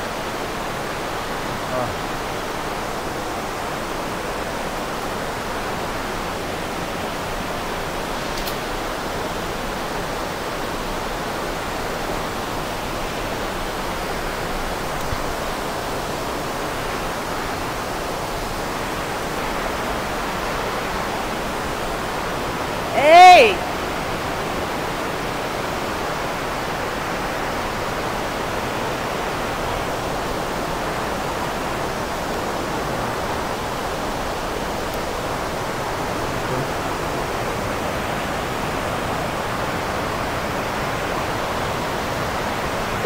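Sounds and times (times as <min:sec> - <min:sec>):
underground river and waterfall rushing: 0:00.0 - 0:43.0.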